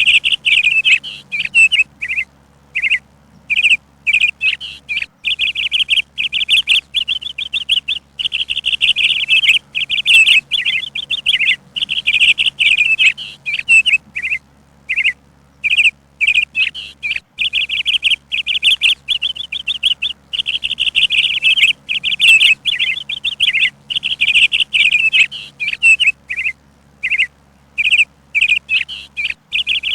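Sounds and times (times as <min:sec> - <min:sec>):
bird chirping: 0:00.0 - 0:29.9.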